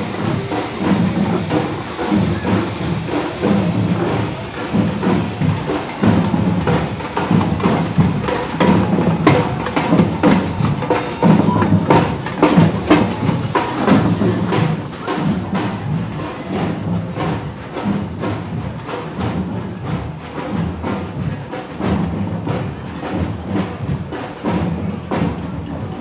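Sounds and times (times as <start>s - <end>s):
drums and percussion: 0.0s - 26.0s.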